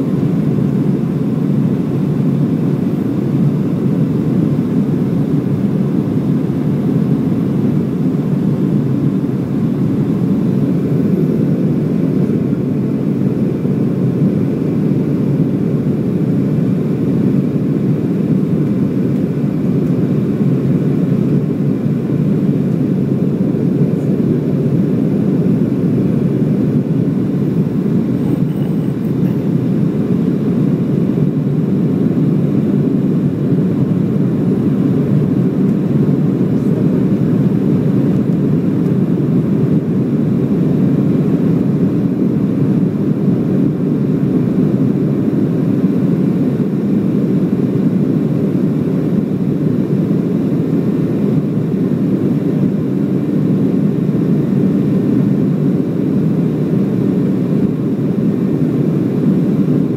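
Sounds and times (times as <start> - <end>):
jet engines droning in cabin: 0.0 - 59.9.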